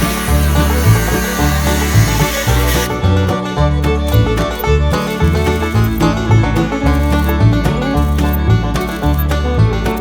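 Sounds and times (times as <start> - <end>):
bluegrass music with banjo: 0.0 - 10.0.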